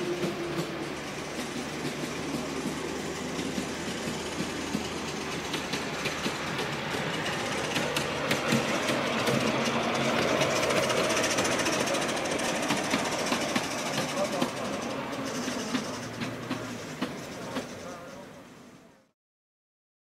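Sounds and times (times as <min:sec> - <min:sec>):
train wheels clicking over rail joints: 0:00.0 - 0:18.9.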